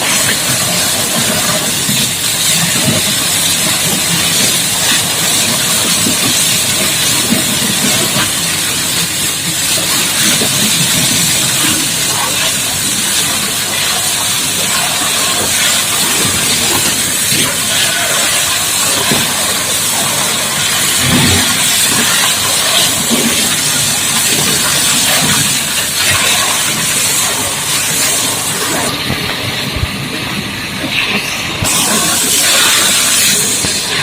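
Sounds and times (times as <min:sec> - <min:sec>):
high-pressure water jet hissing: 0:00.0 - 0:34.0.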